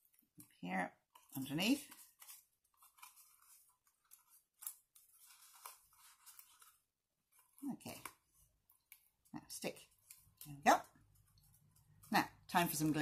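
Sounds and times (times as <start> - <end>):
tape crinkling and rustling: 0.0 - 13.0.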